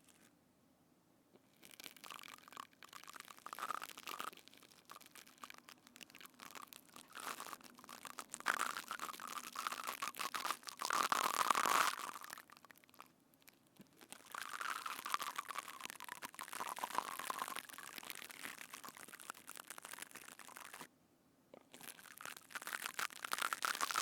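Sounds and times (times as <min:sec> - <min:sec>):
slime crackling and crunching: 0:01.5 - 0:20.9, 0:21.6 - 0:24.0.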